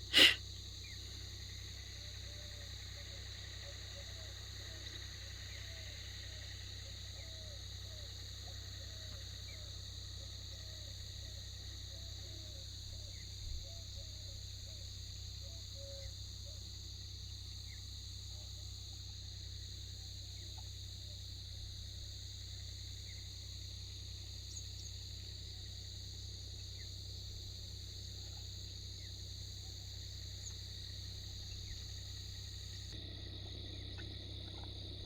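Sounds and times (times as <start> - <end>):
crickets chorus drone: 0.0 - 35.0
faint insect chirps: 0.0 - 35.0.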